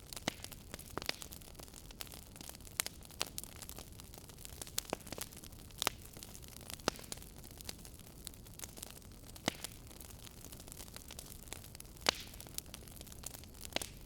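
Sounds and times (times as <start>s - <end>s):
soft hiss of burning: 0.0s - 14.0s
wood fire crackling: 0.0s - 14.0s.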